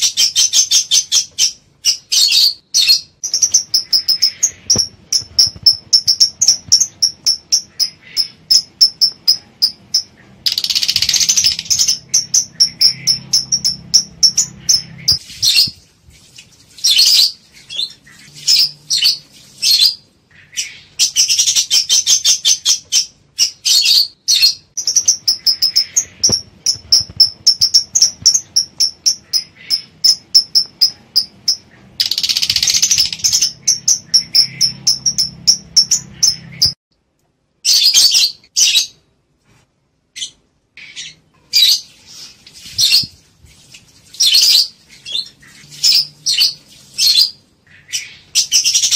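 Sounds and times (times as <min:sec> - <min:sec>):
lovebirds chirping: 0:00.0 - 0:36.8, 0:37.6 - 0:39.1, 0:40.1 - 0:48.9.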